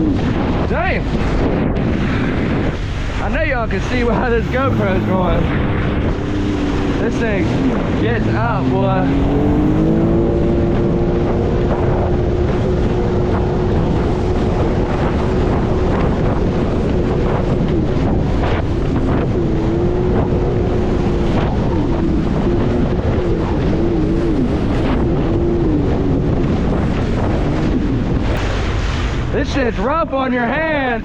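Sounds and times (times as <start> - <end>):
jet ski engine running: 0.0 - 31.0
wind on microphone: 0.0 - 31.0.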